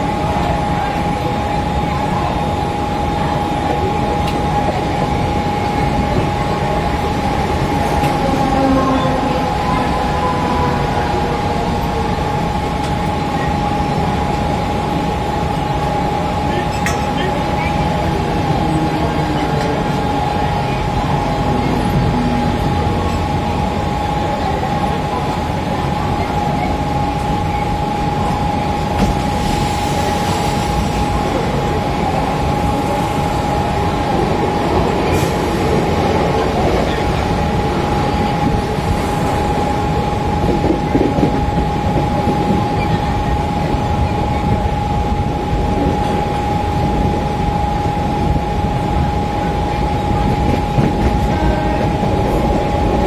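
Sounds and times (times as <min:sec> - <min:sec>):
passing train: 0:00.0 - 0:53.0
train wheels rumbling on rail: 0:00.0 - 0:53.0.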